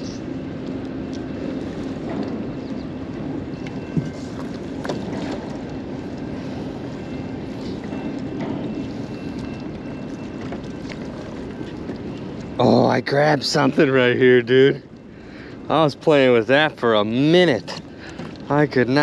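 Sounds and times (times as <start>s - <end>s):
low engine hum: 0.0s - 19.0s
water noise: 0.0s - 19.0s
wind: 0.0s - 19.0s.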